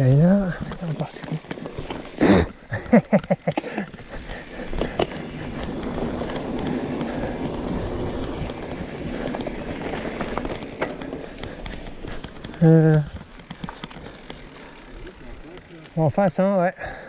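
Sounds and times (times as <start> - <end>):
bike rolling and rattling: 0.0 - 17.0.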